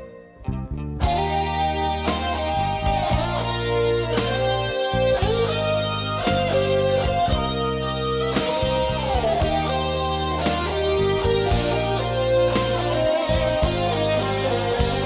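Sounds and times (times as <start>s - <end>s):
bass line: 0.0s - 15.0s
guitar-led background music: 0.0s - 15.0s.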